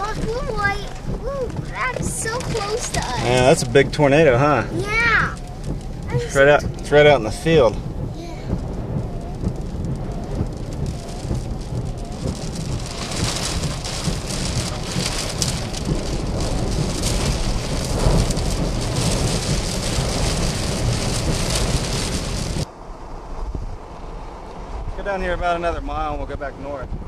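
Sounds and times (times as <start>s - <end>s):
heavy rain pattering: 0.0s - 22.7s
constant low rumble: 0.0s - 27.0s.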